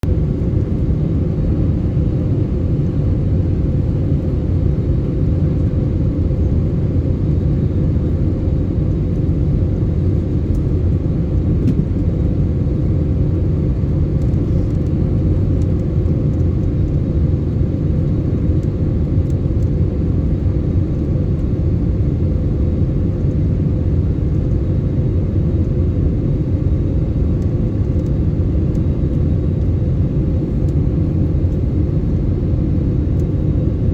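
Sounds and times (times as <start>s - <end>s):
airliner engines rumbling: 0.0s - 33.9s.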